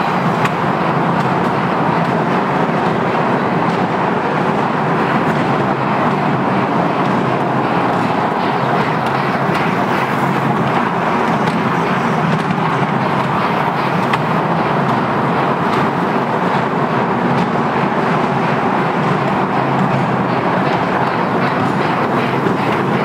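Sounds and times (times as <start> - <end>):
small ride-on train running: 0.0 - 23.0.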